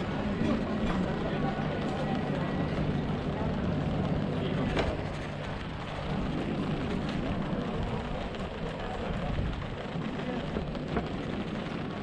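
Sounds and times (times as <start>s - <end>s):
bicycle rattling over cobblestones: 0.0s - 12.0s
wind rumble on microphone: 0.0s - 12.0s.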